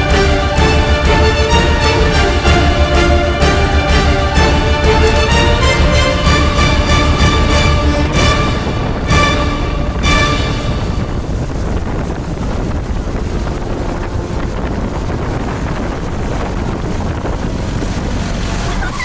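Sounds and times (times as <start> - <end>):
speedboat wake churning: 0.0 - 19.0
wind buffeting microphone: 0.0 - 19.0.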